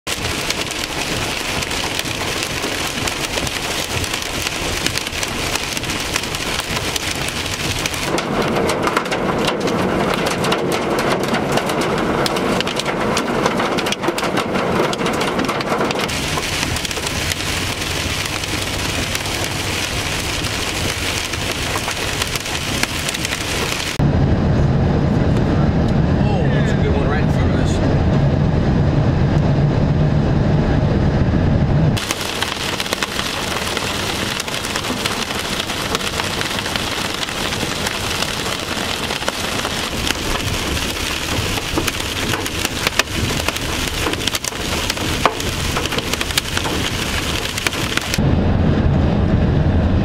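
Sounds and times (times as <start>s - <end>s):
vehicle road noise: 0.0s - 50.0s
hail and heavy rain: 0.1s - 24.0s, 32.0s - 48.2s
hailstones ticking on gravel: 0.1s - 24.0s, 32.0s - 48.2s.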